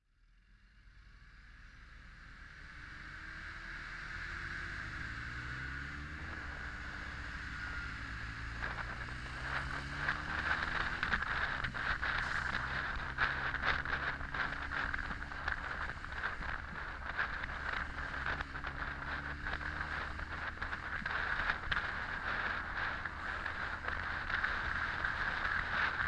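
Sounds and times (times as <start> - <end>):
motorcycle engine running: 1.6 - 26.0
wind noise on microphone: 4.2 - 26.0.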